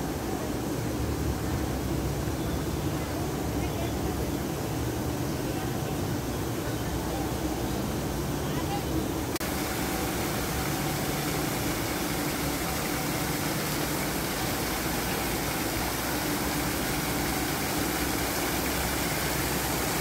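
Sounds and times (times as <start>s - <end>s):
waterfall splashing onto rocks: 0.0s - 20.0s.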